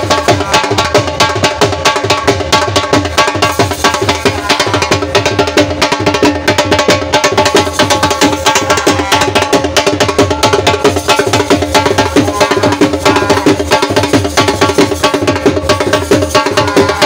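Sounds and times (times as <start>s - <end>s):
fast percussion beat: 0.0s - 17.0s.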